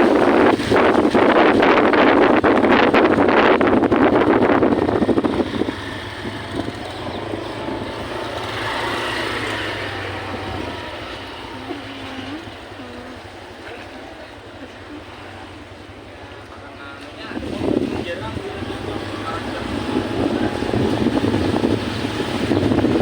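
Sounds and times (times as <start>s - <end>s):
engine droning: 0.0s - 23.0s
wind buffeting microphone: 0.0s - 23.0s.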